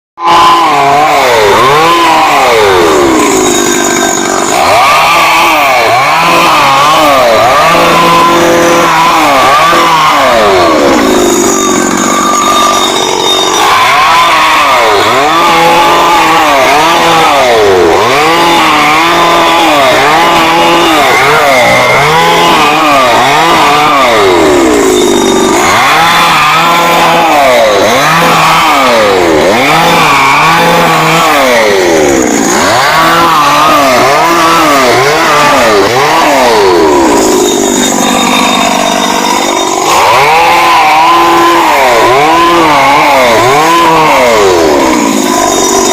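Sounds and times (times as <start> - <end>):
small petrol engine revving: 0.2 - 45.9.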